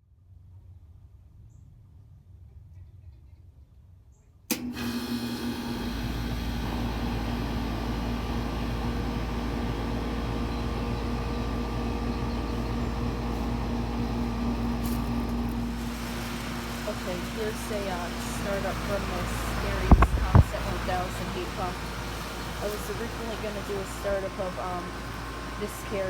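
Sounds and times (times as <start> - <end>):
air conditioner unit whirring: 4.5 - 26.0.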